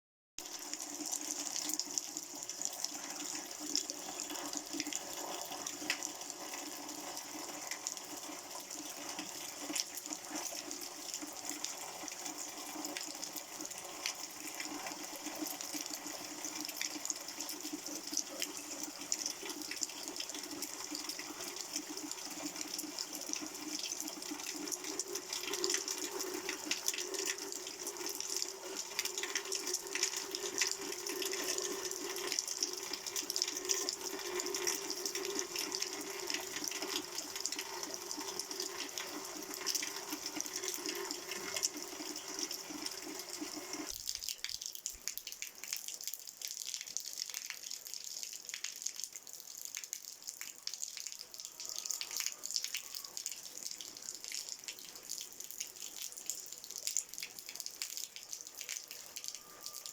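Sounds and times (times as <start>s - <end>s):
running water with splashes: 0.4s - 49.2s.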